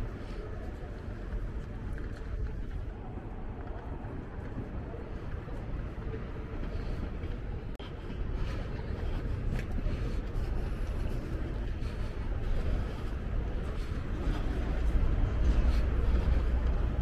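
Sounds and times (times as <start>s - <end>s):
traffic rumble: 0.0s - 17.0s
wind: 0.0s - 17.0s.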